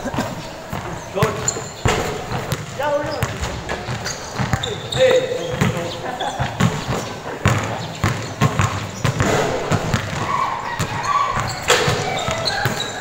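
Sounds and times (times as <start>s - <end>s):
basketball bouncing on court: 0.0s - 13.0s
players calling out: 0.0s - 13.0s.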